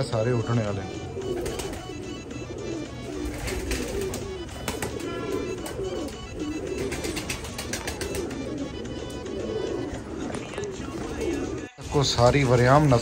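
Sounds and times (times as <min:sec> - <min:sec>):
pigeons cooing: 0:00.0 - 0:13.0
birds pecking at grain: 0:00.5 - 0:13.0.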